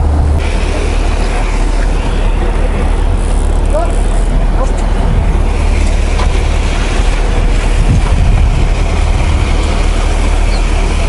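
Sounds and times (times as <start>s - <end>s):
boat engine rumbling: 0.0s - 11.0s
water noise: 0.0s - 11.0s
wind: 0.0s - 11.0s.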